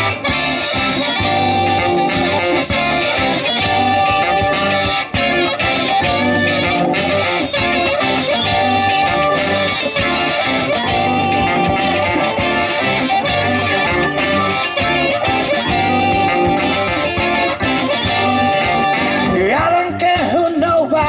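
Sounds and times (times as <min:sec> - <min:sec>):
electric guitars: 0:00.0 - 0:20.4
bass: 0:00.0 - 0:21.0
steady drum beat: 0:00.0 - 0:21.0.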